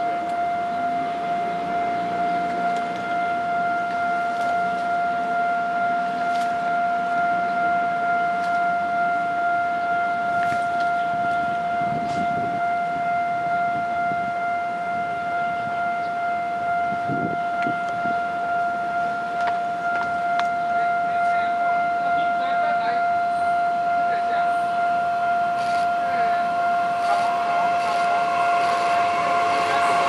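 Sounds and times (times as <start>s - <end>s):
level crossing alarm tone: 0.0s - 30.0s.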